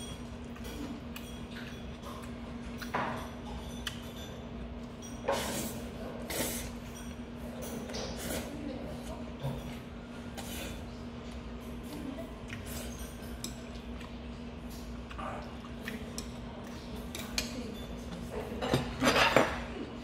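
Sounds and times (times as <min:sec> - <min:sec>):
utensils clattering against dish: 0:00.0 - 0:15.0, 0:15.8 - 0:20.0.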